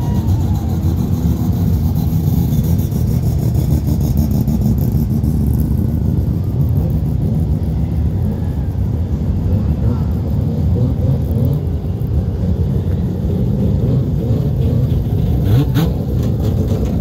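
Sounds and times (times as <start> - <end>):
cars driving slowly past: 0.0 - 17.0.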